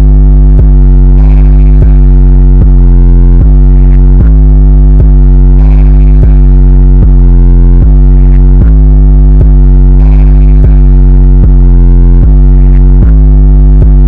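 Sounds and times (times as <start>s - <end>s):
bass-heavy electronic music: 0.0s - 14.0s.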